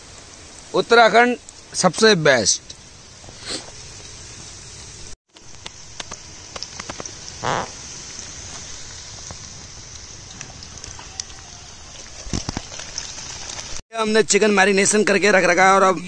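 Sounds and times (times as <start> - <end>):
onions sizzling in oil: 0.0 - 13.8.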